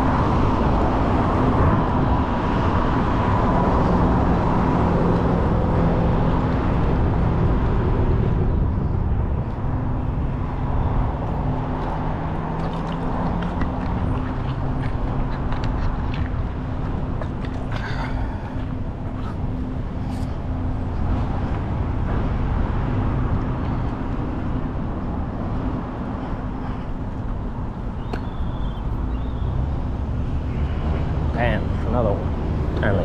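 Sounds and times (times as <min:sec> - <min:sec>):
passing cars: 0:00.0 - 0:33.0.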